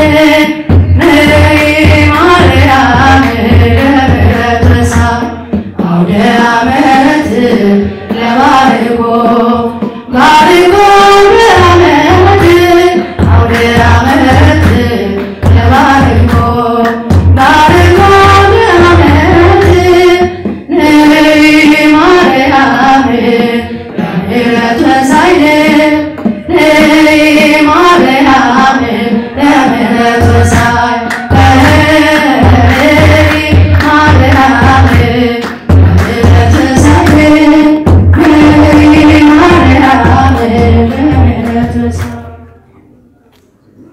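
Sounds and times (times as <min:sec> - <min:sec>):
woman singing a hymn: 0:00.0 - 0:42.5.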